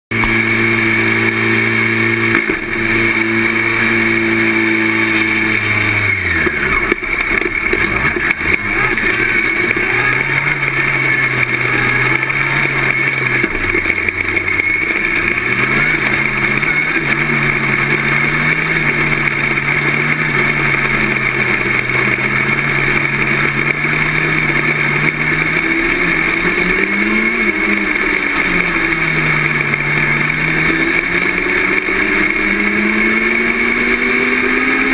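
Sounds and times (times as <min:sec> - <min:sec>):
race car engine running hard: 0:00.0 - 0:34.9.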